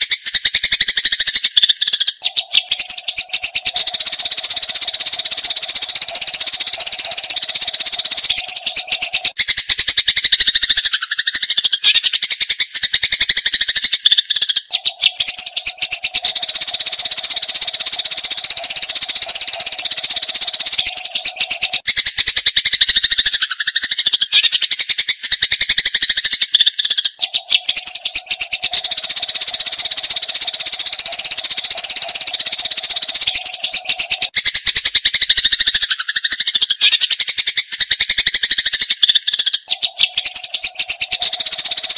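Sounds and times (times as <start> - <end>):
sparrows chirping: 0.0 - 41.9.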